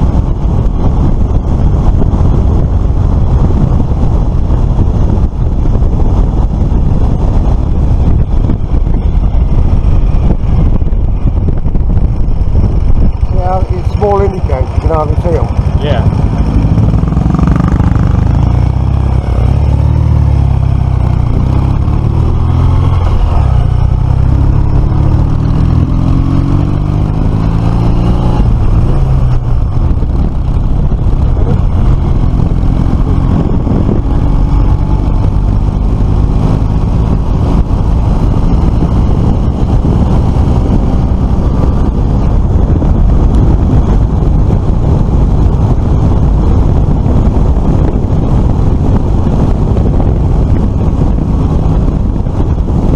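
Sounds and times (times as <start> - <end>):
wind rumbling on microphone: 0.0 - 52.9.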